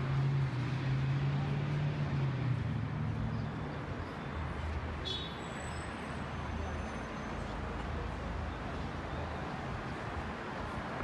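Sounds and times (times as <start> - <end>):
city noise: 0.0 - 11.0.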